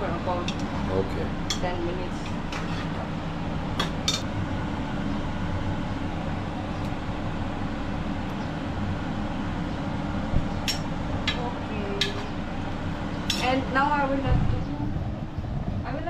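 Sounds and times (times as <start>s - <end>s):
low kitchen rumble: 0.0s - 16.0s.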